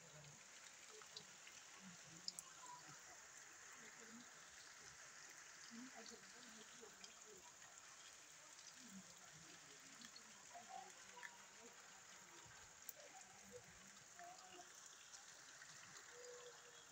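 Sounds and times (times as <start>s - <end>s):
rain on standing water: 0.0s - 16.9s.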